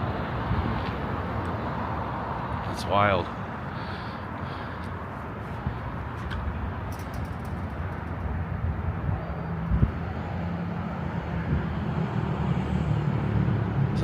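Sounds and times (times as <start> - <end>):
road noise rushing: 0.0 - 14.0.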